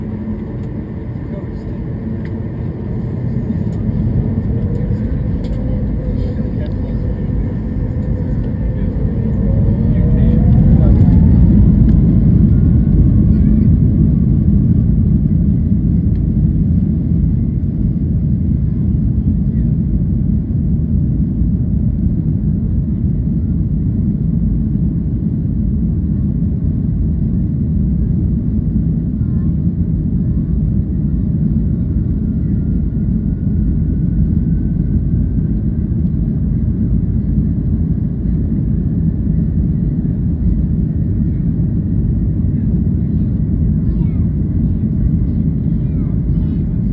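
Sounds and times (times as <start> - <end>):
jet engines low rumble: 0.0 - 46.9.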